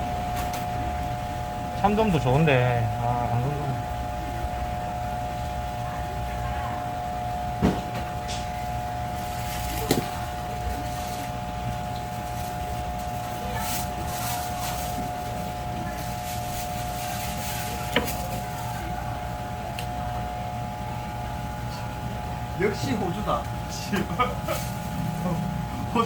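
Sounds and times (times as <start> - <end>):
steady tonal hum: 0.0 - 26.0.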